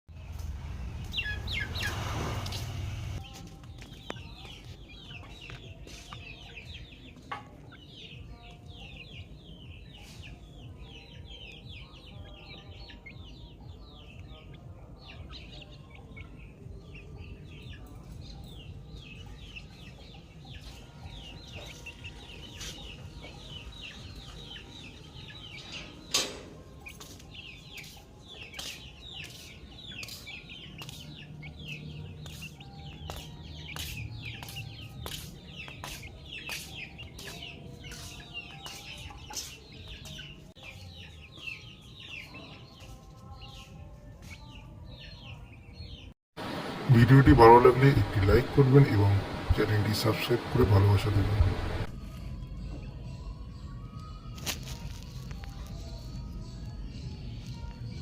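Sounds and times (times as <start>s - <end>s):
chicks peeping: 0.2s - 58.0s.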